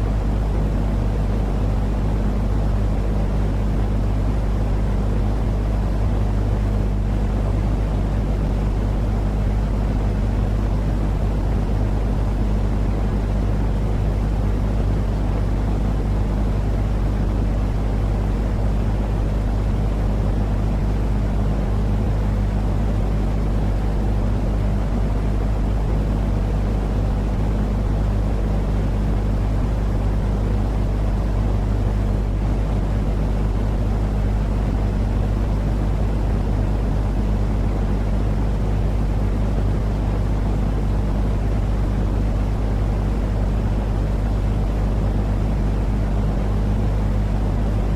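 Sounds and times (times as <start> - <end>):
constant hum: 0.0 - 47.9
low rumbling white noise: 0.0 - 47.9.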